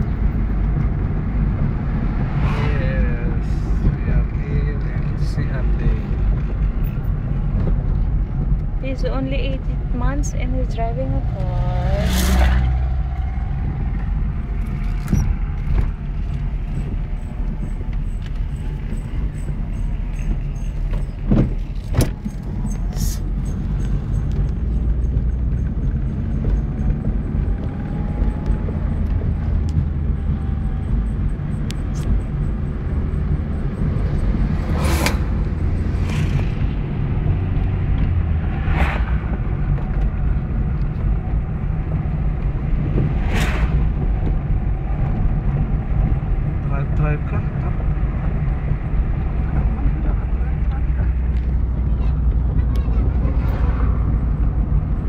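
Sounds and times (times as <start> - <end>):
car road noise and engine rumble: 0.0 - 55.0.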